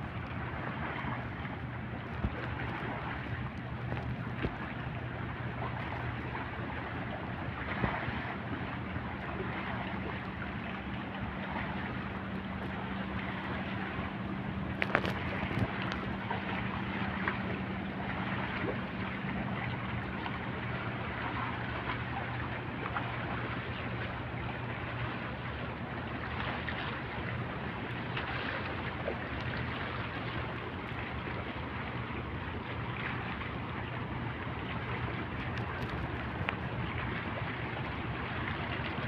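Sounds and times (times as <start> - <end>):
boat engines humming: 0.0 - 39.0
wind and water hiss: 0.0 - 39.0.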